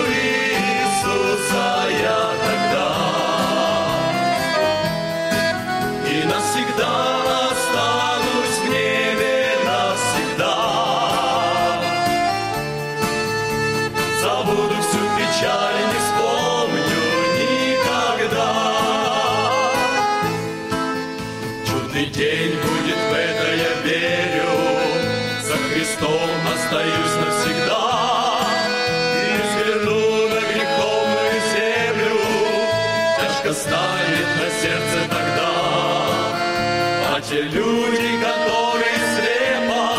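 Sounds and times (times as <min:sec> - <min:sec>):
men's ensemble singing hymn: 0:00.0 - 0:04.8, 0:06.0 - 0:12.6, 0:14.0 - 0:20.2, 0:21.6 - 0:39.9
instrumental accompaniment: 0:00.0 - 0:39.9.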